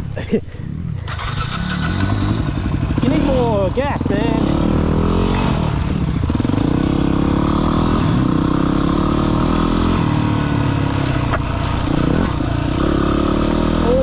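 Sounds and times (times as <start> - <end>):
dirt bike engine revving: 1.0 - 14.0.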